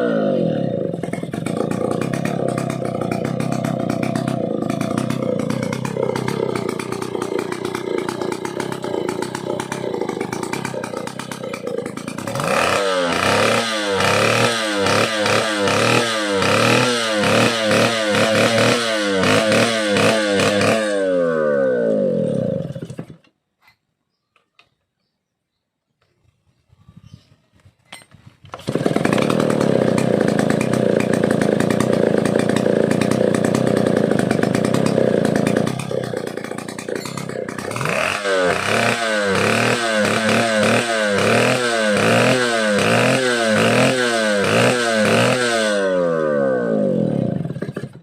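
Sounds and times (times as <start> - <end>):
chainsaw engine revving: 0.0 - 23.2, 28.5 - 48.0.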